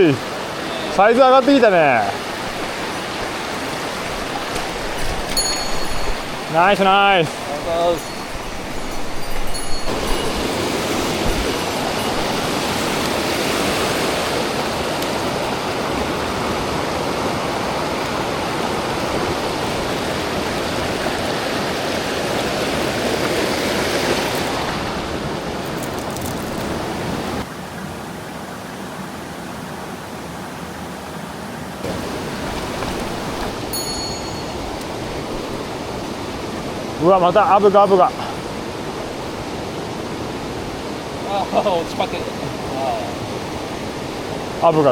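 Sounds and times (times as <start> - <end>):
mountain stream rushing: 0.0 - 44.9.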